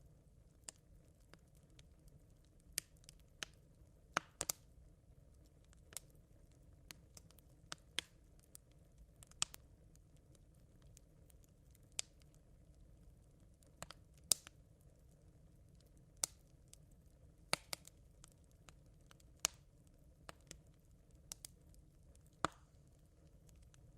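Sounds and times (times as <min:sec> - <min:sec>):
campfire embers crackling: 0:00.0 - 0:23.9.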